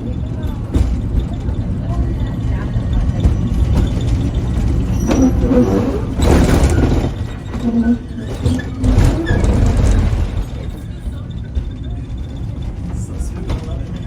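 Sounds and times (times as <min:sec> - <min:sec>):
funicular car rumbling on track: 0:00.0 - 0:14.0.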